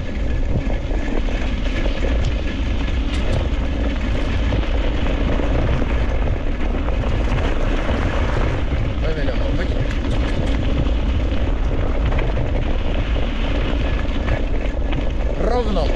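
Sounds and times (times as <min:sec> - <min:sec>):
low wind rumble on microphone: 0:00.0 - 0:15.9.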